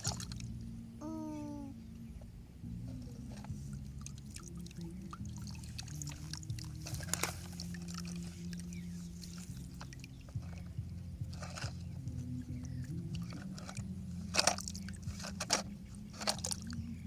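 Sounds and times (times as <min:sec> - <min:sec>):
soil scraping and trickling: 0:02.9 - 0:17.0.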